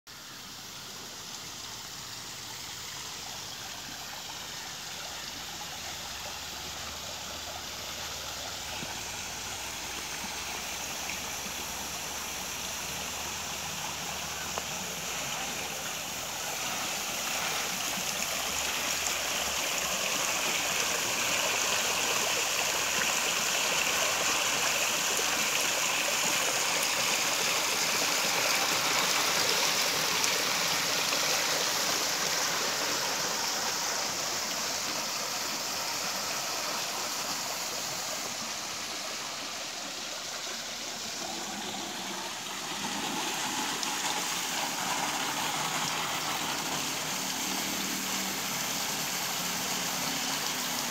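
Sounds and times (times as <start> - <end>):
waterfall rushing into pool: 0.1 - 50.9.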